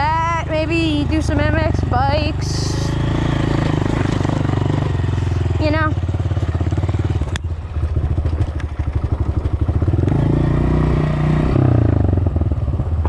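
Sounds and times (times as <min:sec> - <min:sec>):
dirt bike engine revving: 0:00.0 - 0:12.5.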